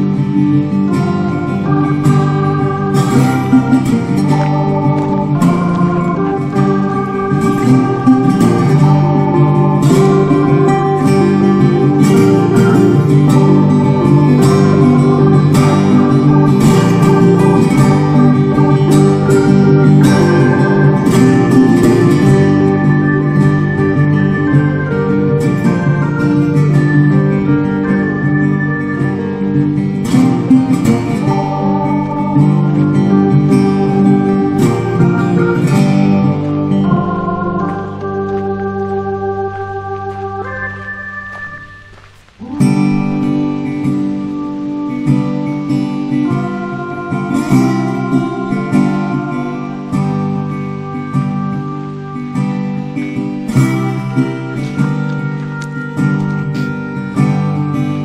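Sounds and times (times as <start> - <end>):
acoustic guitar strumming: 0.0 - 58.0
music with long held chords: 0.0 - 58.0.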